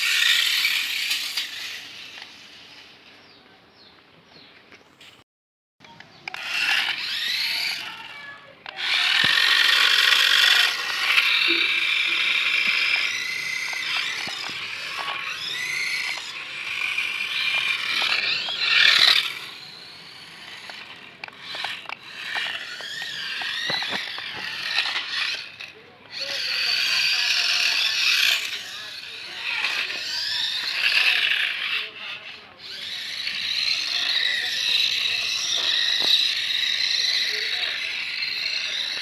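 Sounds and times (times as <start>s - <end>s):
toy car electric motor whining: 0.0s - 3.0s, 5.8s - 39.0s.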